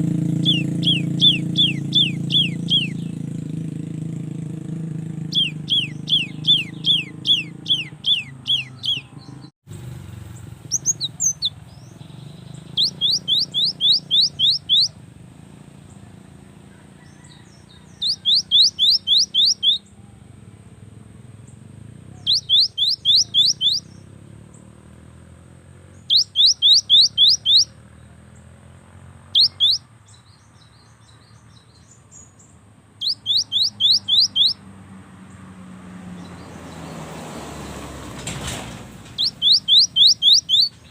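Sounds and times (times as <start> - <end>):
tit bird singing: 0.0 - 9.5, 10.2 - 15.1, 16.9 - 20.3, 21.2 - 40.9.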